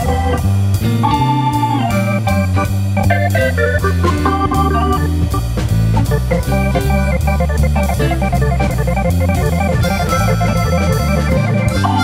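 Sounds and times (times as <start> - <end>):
moving bass line: 0.0 - 12.0
organ-like keyboard music: 0.0 - 12.0.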